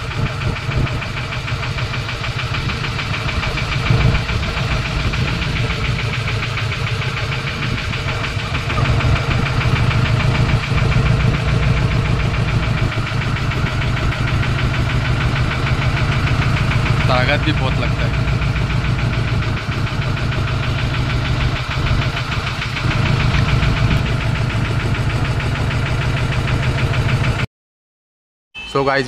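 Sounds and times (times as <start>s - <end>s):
boat engine knocking: 0.0s - 27.5s.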